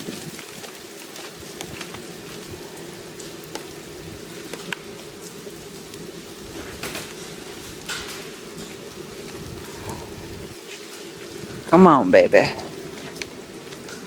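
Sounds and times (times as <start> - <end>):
heater droning: 0.0 - 14.0
meltwater dripping: 0.0 - 14.0.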